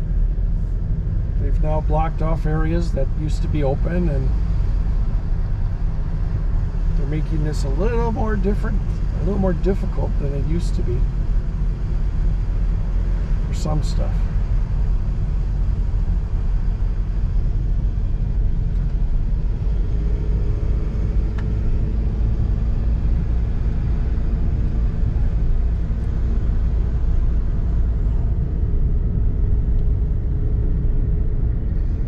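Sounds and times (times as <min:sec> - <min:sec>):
car road and engine noise: 0:00.0 - 0:32.0.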